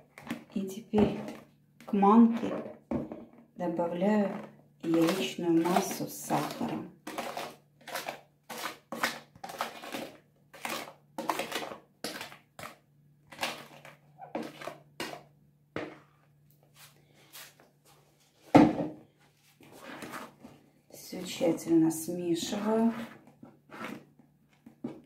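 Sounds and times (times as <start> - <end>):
spoon stirring batter in a bowl: 0.0 - 3.4, 4.0 - 18.0, 19.5 - 25.0.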